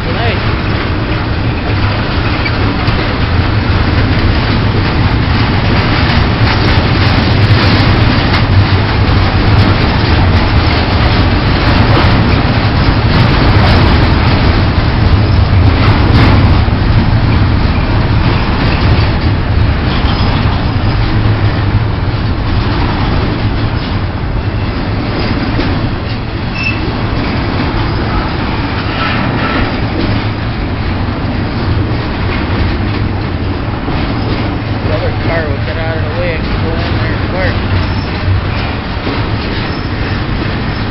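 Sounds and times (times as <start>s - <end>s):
freight train wheels rumbling: 0.0s - 40.9s
sharp clacks of train wheels: 0.0s - 40.9s.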